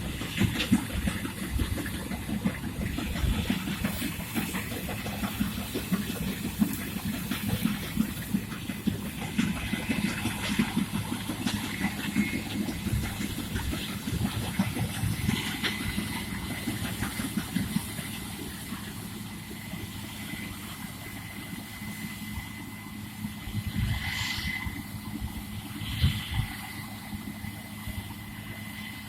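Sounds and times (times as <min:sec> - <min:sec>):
farm machine engine running: 0:00.0 - 0:29.0
thin steady whine: 0:00.0 - 0:29.0.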